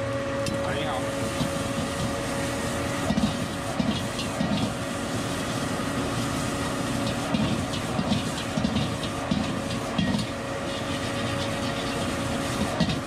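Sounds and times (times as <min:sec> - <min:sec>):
metal spatula scraping a wok: 0:01.2 - 0:13.0.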